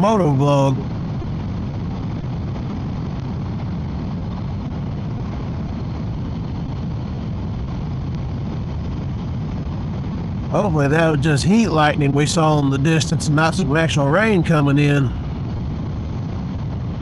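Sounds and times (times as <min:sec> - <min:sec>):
wind noise on microphone: 0:00.0 - 0:12.2, 0:14.9 - 0:17.0
motorcycle engine drone: 0:00.0 - 0:17.0.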